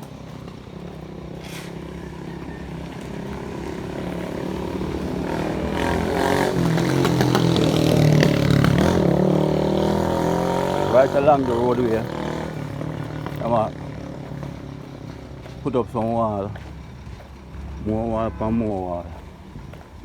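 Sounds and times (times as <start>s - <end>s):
vehicle engine approaching: 0.0s - 20.0s.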